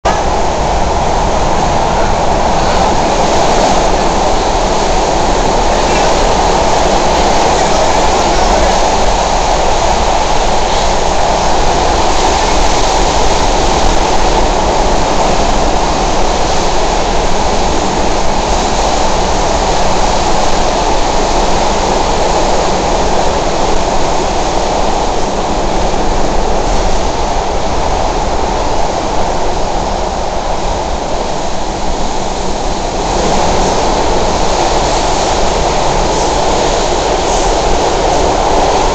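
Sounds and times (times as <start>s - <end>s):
subway train running on track: 0.0s - 38.9s.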